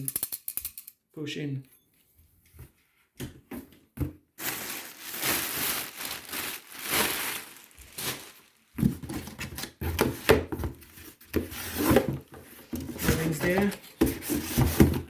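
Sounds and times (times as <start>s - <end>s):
rustling and scraping handling noise: 1.8s - 15.0s.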